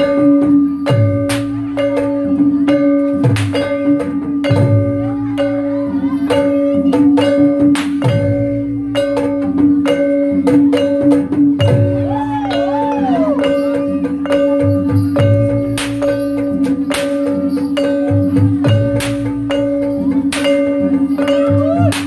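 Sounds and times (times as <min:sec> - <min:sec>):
gamelan metal keys playing: 0:00.0 - 0:22.0.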